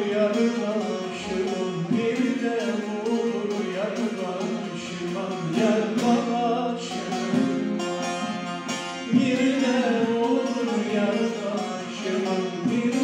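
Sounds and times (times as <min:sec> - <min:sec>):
long-necked lute folk melody: 0:00.0 - 0:13.0.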